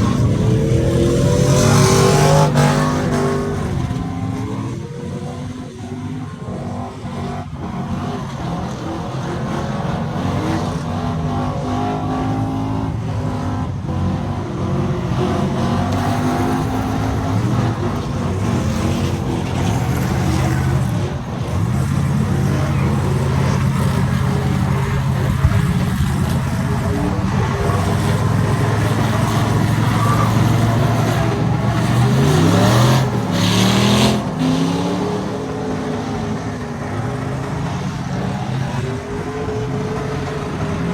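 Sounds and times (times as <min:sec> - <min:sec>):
truck engines revving: 0:00.0 - 0:40.9.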